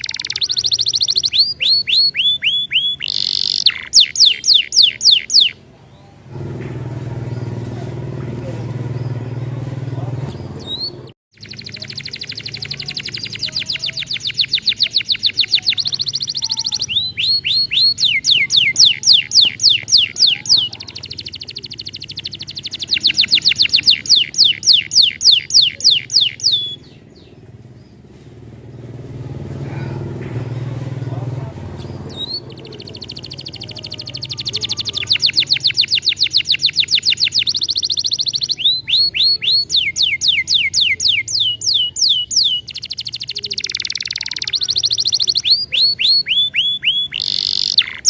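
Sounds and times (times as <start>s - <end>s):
canary singing trills: 0.0s - 6.3s, 8.4s - 48.0s.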